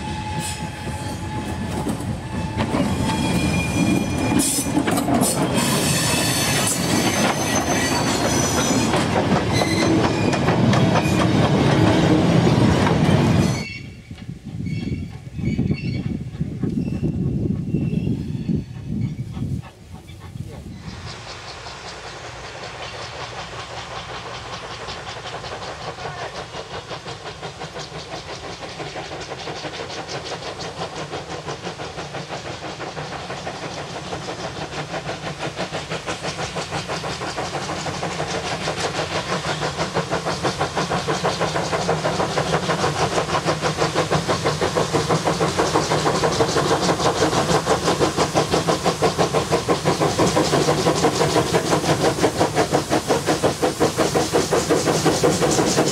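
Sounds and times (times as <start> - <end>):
steam locomotive exhaust beats: 0.0 - 55.9.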